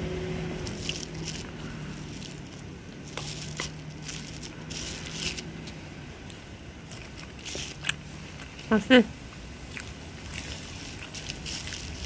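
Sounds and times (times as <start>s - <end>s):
low steady hum: 0.0s - 12.0s
eating clicks and crunches: 0.6s - 12.0s.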